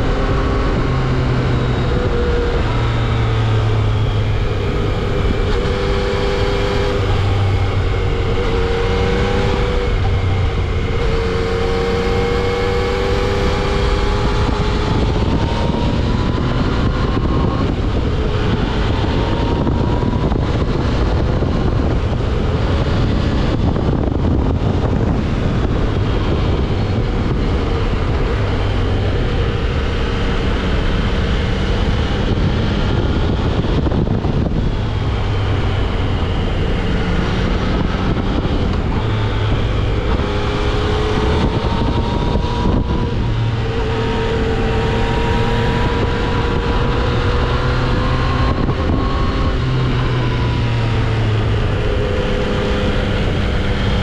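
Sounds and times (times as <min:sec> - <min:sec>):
motorcycle engine revving: 0:00.0 - 0:54.0
wind on microphone: 0:00.0 - 0:54.0.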